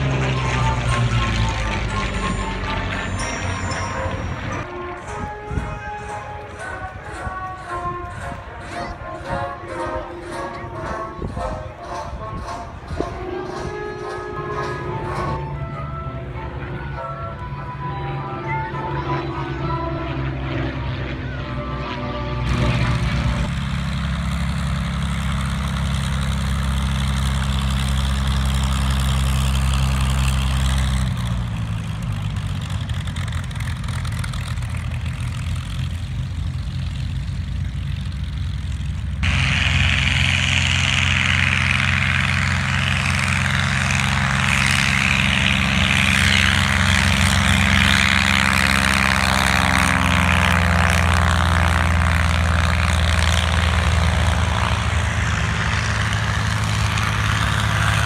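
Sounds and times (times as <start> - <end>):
propeller plane engines: 0.0 - 58.0
raspy engine: 0.0 - 58.0.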